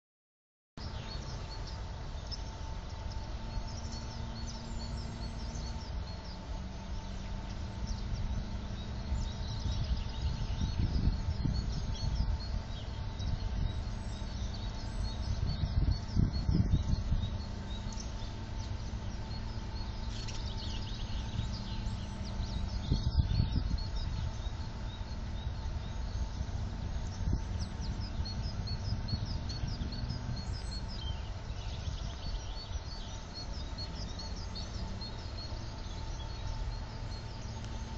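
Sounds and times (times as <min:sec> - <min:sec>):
low rumbling noise: 0:00.8 - 0:37.9
songbirds chirping: 0:00.8 - 0:37.9.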